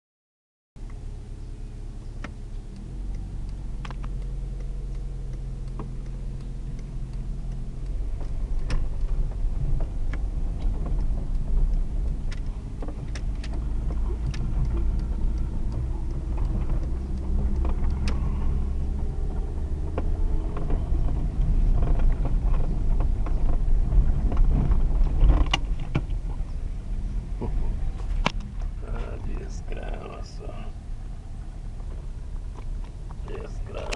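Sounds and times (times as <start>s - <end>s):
car engine hum: 0.8s - 33.9s
road noise: 0.8s - 33.9s
sharp clicks and rattles: 2.0s - 33.9s.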